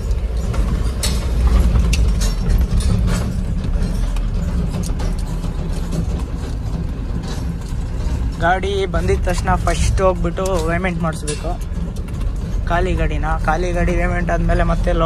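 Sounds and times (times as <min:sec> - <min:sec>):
cab rattling and knocking: 0:00.0 - 0:15.0
truck engine and road rumble: 0:00.0 - 0:15.0.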